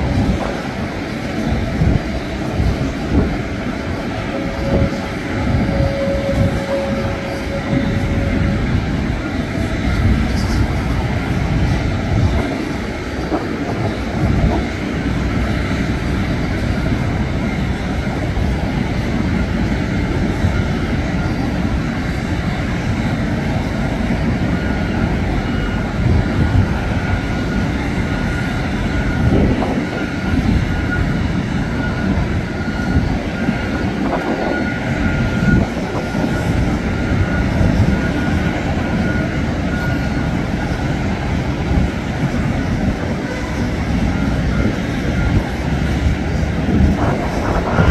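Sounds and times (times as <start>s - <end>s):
high whine: 0.0s - 47.9s
jet airliner rumble: 0.0s - 47.9s.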